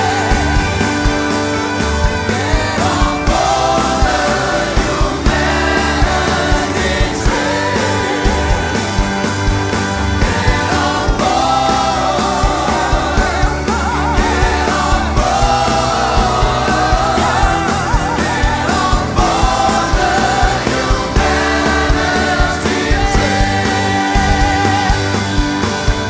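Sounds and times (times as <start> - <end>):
bass: 0.0 - 26.0
drum beat: 0.0 - 26.0
people singing: 0.0 - 26.0.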